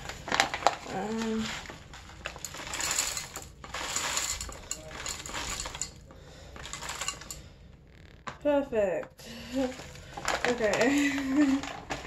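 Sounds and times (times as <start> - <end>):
pellets rattling into plastic cup: 0.0 - 7.4, 9.6 - 12.0.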